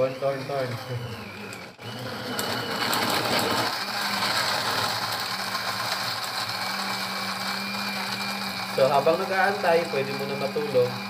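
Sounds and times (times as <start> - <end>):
blender blending ice: 0.0 - 11.0.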